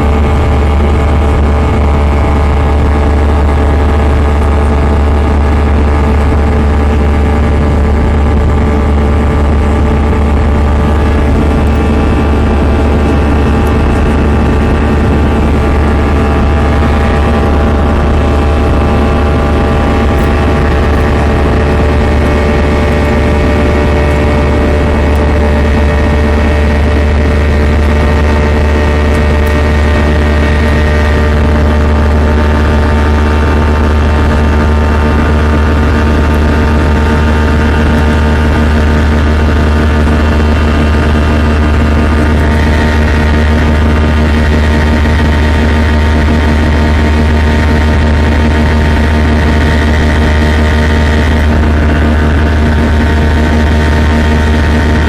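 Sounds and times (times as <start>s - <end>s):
jet engines in cabin: 0.0s - 55.0s.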